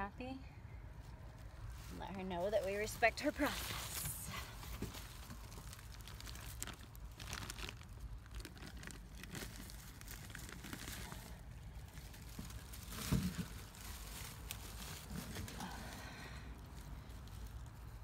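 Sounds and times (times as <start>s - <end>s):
dry leaves rustling and crackling: 1.3s - 18.0s.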